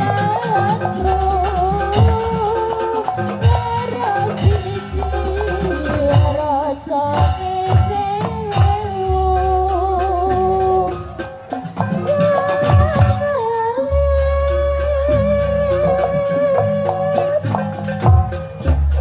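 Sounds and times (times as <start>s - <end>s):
drum strokes: 0.0s - 19.0s
gamelan melody: 0.0s - 19.0s.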